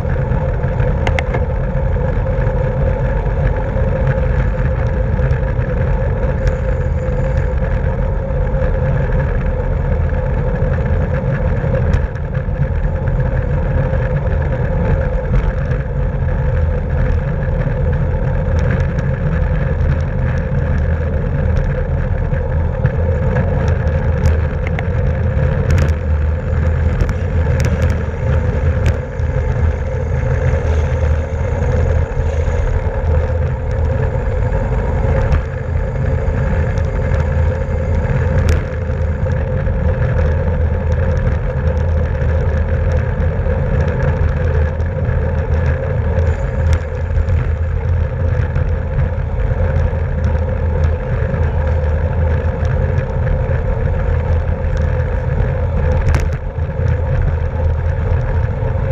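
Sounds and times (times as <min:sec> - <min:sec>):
wind and road noise: 0:00.0 - 0:58.9.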